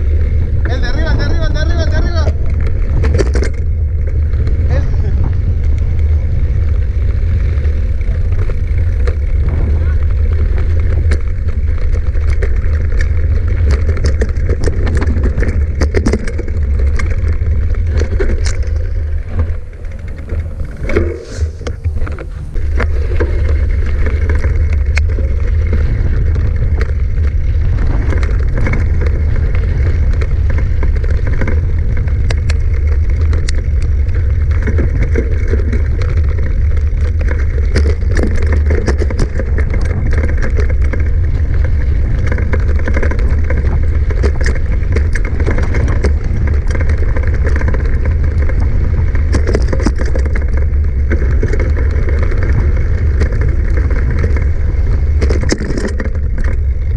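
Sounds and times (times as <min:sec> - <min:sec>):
bike clicks and rattles: 0:00.0 - 0:56.9
wind on microphone: 0:00.0 - 0:56.9.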